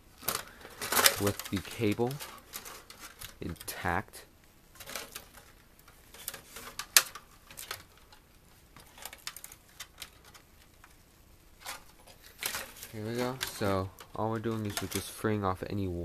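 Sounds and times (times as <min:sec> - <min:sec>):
circuit board and plastic clatter: 0:00.2 - 0:03.8, 0:04.8 - 0:11.0, 0:11.6 - 0:15.3.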